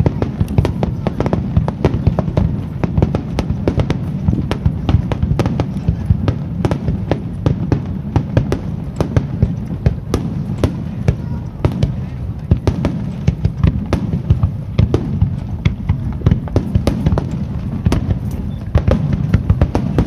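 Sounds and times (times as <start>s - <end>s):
firework cracks and bangs: 0.0s - 20.0s.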